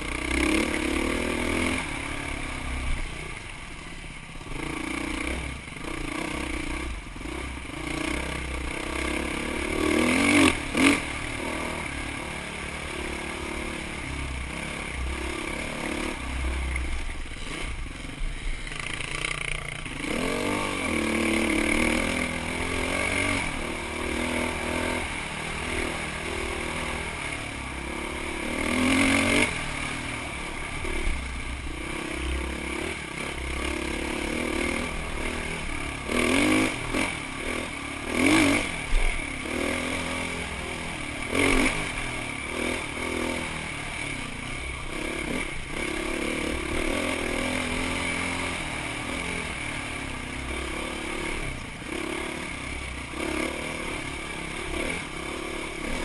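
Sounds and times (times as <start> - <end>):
dirt bike engine revving: 0.0 - 3.5, 4.4 - 56.0.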